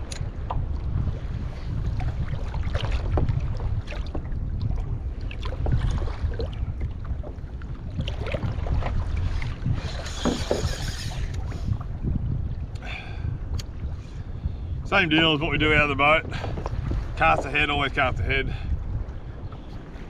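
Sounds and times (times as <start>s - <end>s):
waves slapping against kayak hull: 0.0s - 12.7s, 14.8s - 20.0s
wind buffeting microphone: 0.0s - 20.0s.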